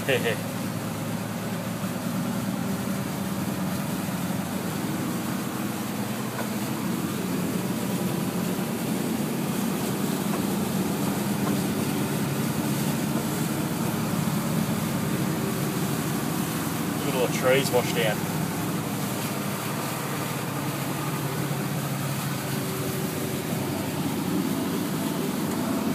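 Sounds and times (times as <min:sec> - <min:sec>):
truck engine running: 0:00.0 - 0:25.9
water washing against vehicle: 0:00.0 - 0:25.9.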